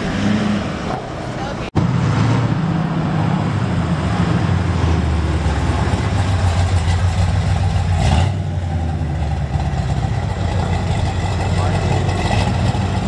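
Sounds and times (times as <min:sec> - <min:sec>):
car engine rumbling past: 0:00.0 - 0:13.0.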